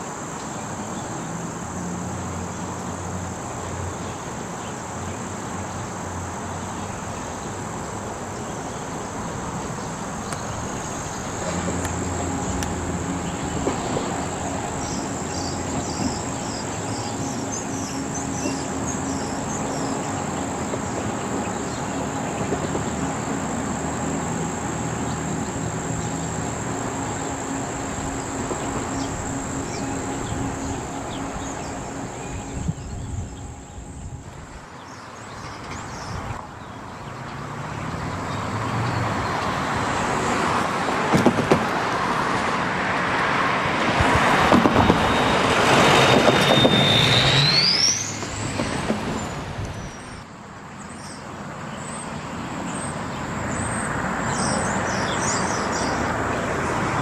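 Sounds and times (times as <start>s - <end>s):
engine humming: 0.0s - 50.3s, 51.4s - 57.0s
crickets and insects trilling: 0.0s - 57.0s.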